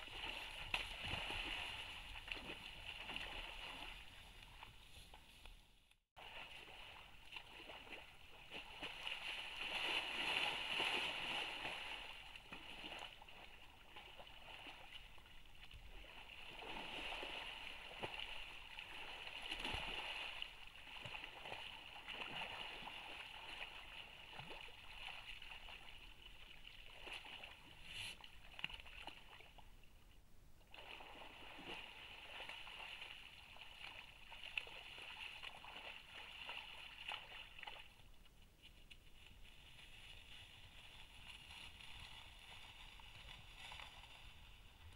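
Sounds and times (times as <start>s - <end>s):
animal splashing in mud: 0.0s - 5.3s, 6.2s - 29.6s, 30.7s - 38.0s.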